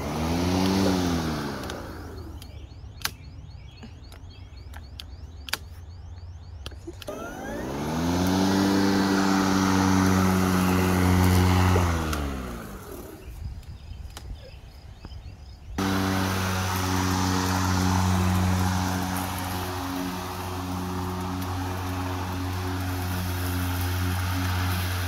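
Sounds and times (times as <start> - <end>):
mower motor humming: 0.0 - 3.2, 4.8 - 13.5, 15.8 - 25.0.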